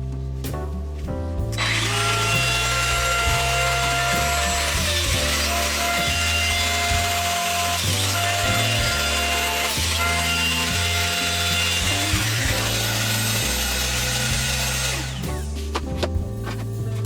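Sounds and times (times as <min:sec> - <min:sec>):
biscuit jointer cutting wood: 0:01.6 - 0:16.6.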